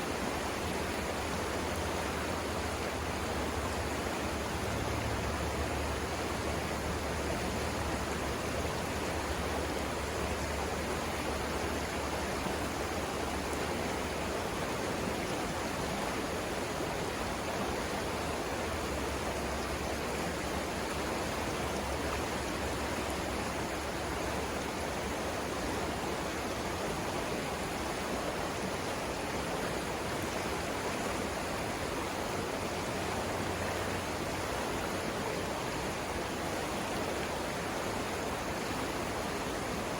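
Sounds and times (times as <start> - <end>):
low rumble of rapids: 0.0 - 39.9
water rushing over rocks: 0.0 - 39.9.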